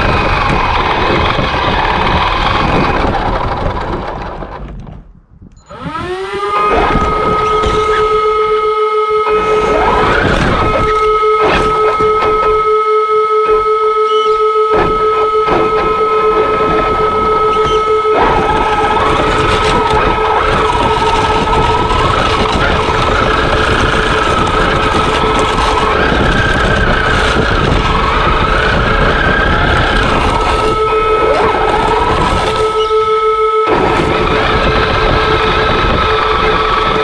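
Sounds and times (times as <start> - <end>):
electric motor whine: 0.0 - 4.6, 5.6 - 37.0
plow blade churning snow: 0.0 - 4.8, 5.7 - 37.0.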